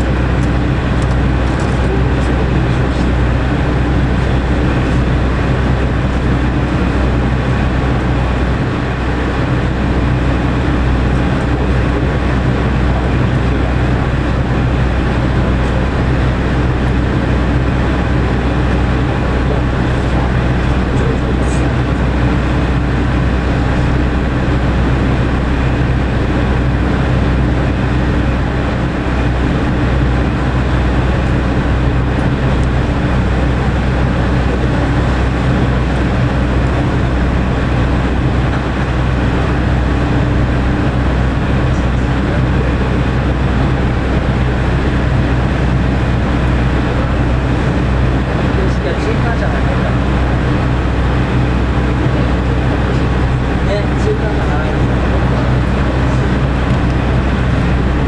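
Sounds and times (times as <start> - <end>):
diesel railcar engine idling: 0.0 - 58.0.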